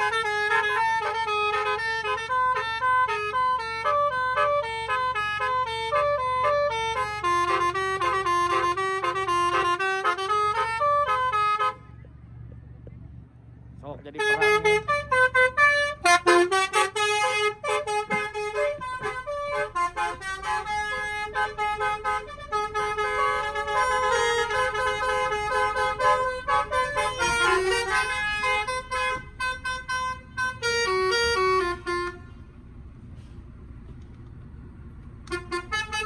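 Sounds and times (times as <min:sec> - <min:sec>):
air horns playing a melody: 0:00.0 - 0:12.0, 0:14.2 - 0:32.4, 0:35.2 - 0:36.0.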